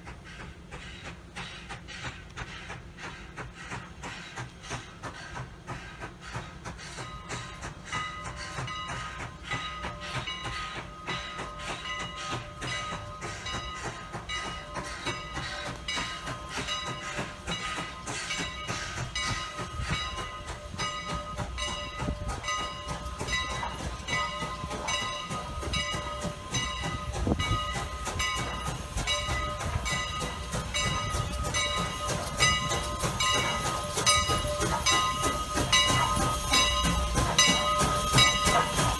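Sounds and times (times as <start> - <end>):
steam train clatter: 0.0 - 38.9.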